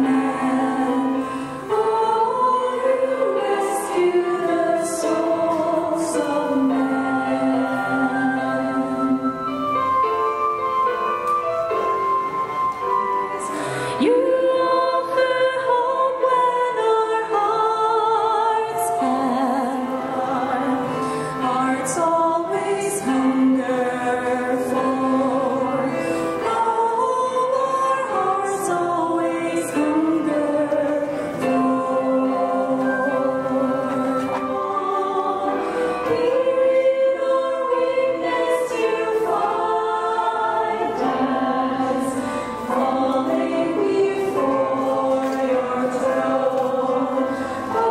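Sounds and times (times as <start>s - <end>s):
women singing in harmony: 0.0s - 9.9s, 13.4s - 47.9s.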